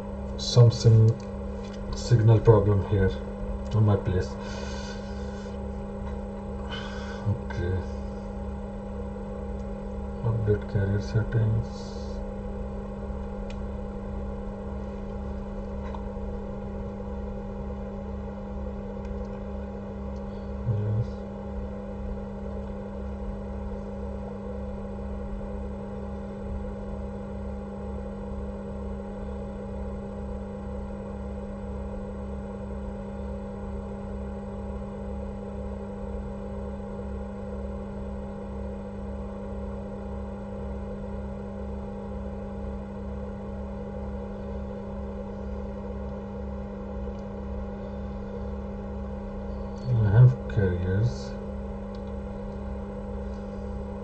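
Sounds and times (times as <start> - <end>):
electrical hum with low throb: 0.0 - 54.0.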